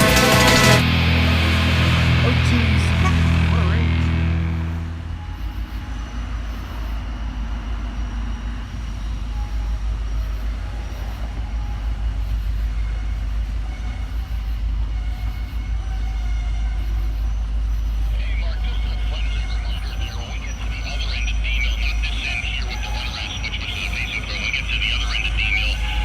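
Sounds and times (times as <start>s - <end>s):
diesel locomotives rumbling: 0.0s - 26.0s.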